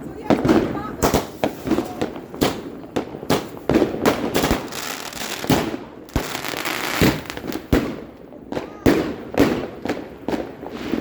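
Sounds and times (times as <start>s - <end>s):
fireworks crackling: 0.0s - 11.0s
firecracker bangs: 0.3s - 11.0s.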